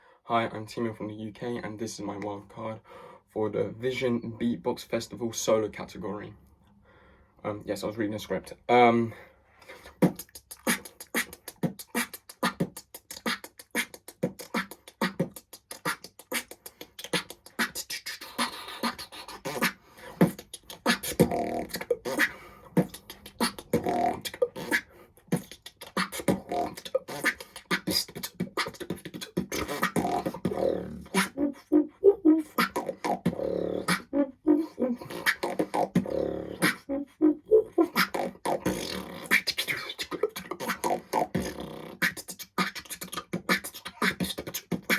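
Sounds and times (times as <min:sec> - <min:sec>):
man beatboxing: 0:07.9 - 0:44.9.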